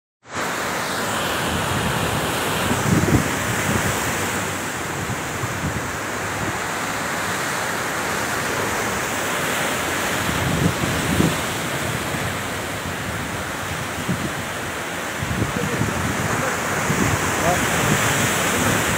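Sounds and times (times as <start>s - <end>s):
surf breaking over rocks: 0.3s - 18.9s
wind buffeting microphone: 1.4s - 6.8s, 8.0s - 18.9s.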